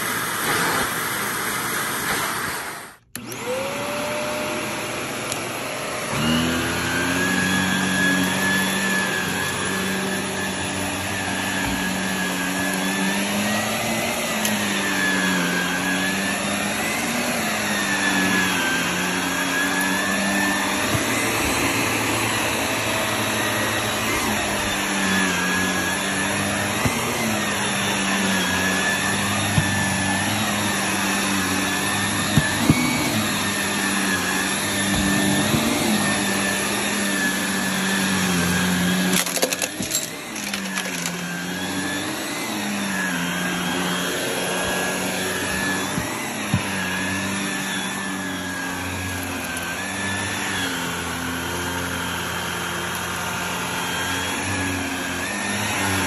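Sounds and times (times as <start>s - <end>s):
upright vacuum running on carpet: 0.0s - 56.0s.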